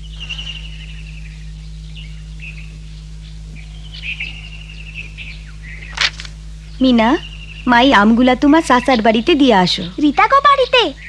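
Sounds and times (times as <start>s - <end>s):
songbirds chirping: 0.0s - 11.0s
steady low hum: 0.0s - 11.0s.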